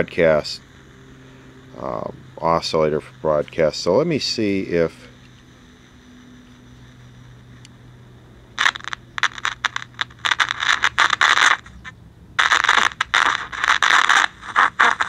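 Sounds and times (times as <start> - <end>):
radio static bursts: 0.0 - 15.0.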